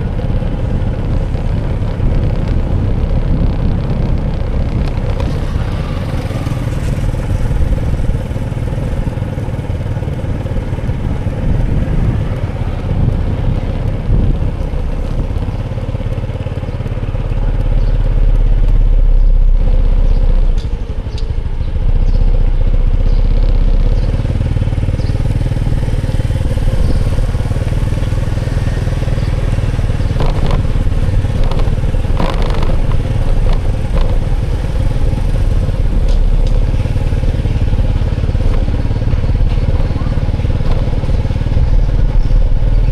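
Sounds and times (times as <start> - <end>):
sharp clatters: 0.0 - 42.9
vehicle engine low rumble: 0.0 - 42.9.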